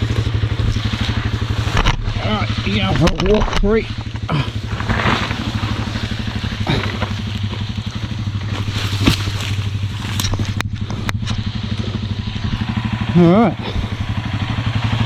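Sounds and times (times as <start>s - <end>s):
knocks and clatters: 0.0s - 12.6s
motorcycle engine running at low revs: 0.0s - 15.0s.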